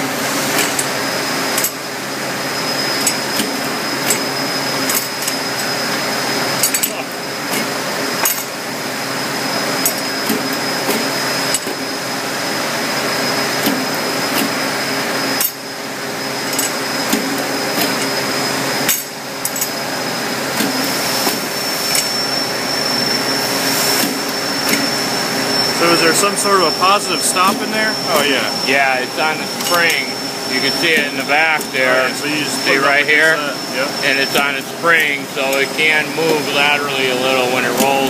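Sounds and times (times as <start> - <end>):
machine hum and high whine: 0.0 - 38.0.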